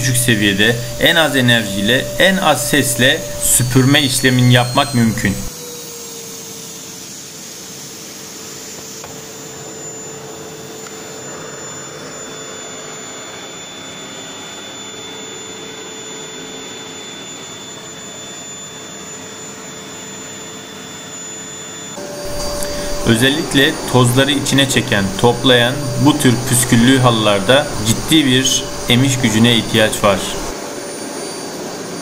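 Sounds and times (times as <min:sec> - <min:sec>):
vacuum cleaner motor running: 0:00.0 - 0:32.0.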